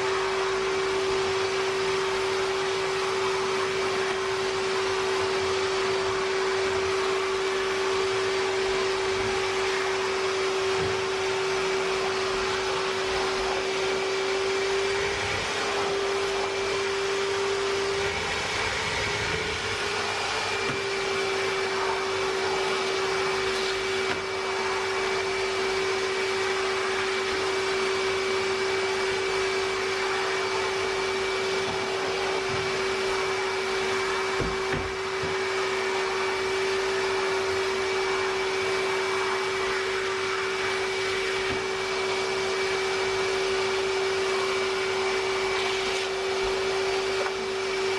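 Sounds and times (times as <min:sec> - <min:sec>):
wet-and-dry vacuum running: 0:00.0 - 0:47.9.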